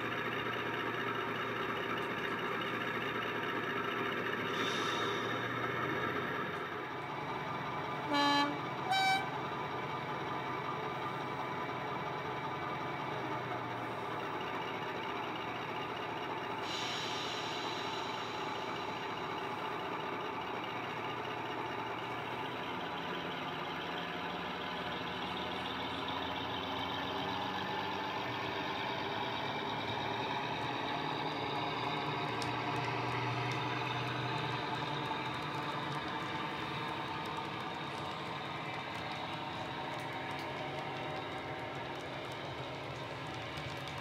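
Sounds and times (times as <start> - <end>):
model train diesel engine sound: 0.0 - 44.0.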